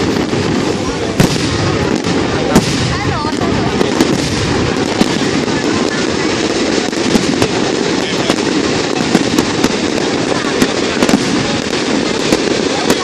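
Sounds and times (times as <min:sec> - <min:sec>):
crowd noise: 0:00.0 - 0:13.0
distant firework bursts: 0:00.0 - 0:13.0
firework bangs and pops: 0:00.0 - 0:13.0.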